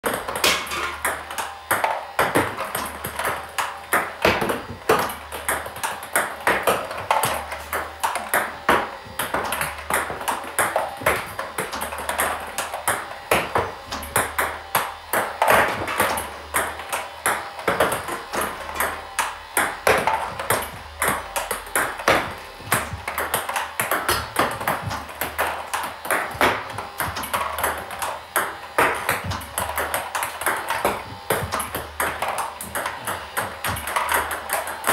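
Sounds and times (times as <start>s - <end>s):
table tennis ball clicks: 0.1s - 34.9s.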